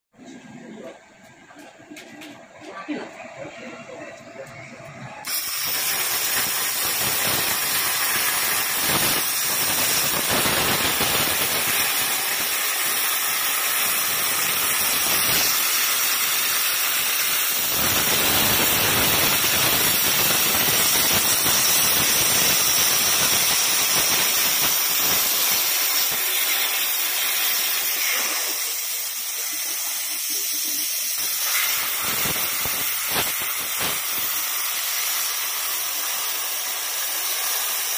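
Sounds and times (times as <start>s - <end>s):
cutting torch hissing: 5.2s - 37.9s.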